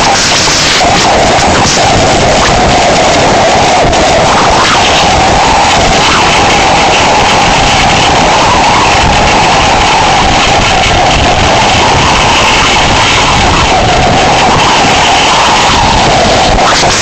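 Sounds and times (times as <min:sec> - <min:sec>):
howling hurricane wind: 0:00.0 - 0:17.0.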